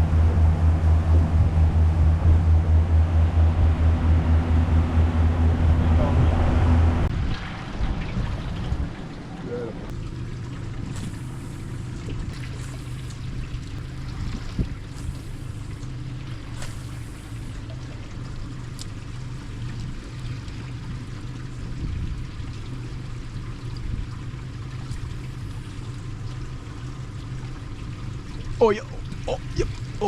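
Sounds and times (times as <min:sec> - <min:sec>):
boat motor humming: 0:00.0 - 0:30.0
water sloshing around hull: 0:00.0 - 0:30.0.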